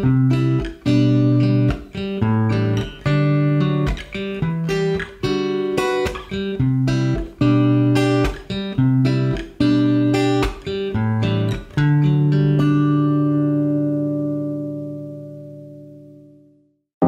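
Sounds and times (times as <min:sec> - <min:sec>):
guitar strumming chords: 0:00.0 - 0:16.6.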